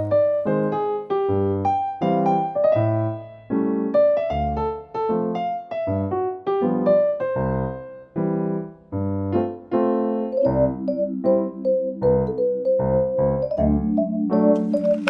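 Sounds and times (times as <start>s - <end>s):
electric piano melody: 0.0s - 15.0s.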